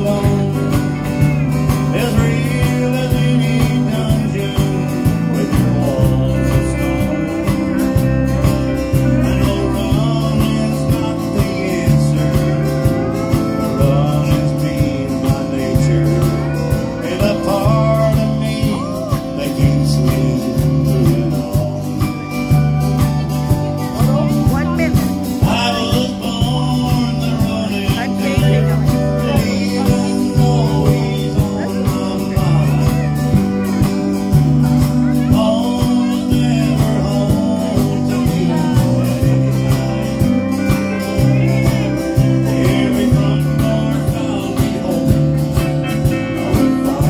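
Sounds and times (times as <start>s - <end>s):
acoustic guitar strumming: 0.0s - 47.0s
drum kit beat: 0.0s - 47.0s.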